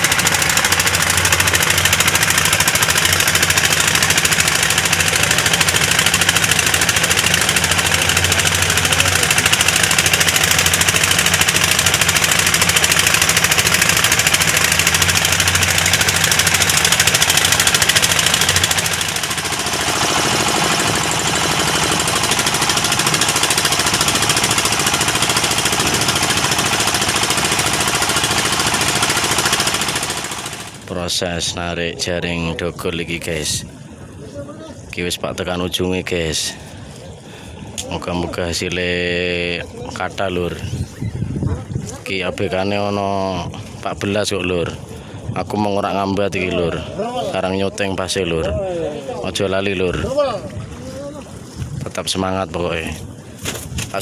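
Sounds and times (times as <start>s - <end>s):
boat diesel engine running: 0.0s - 51.8s.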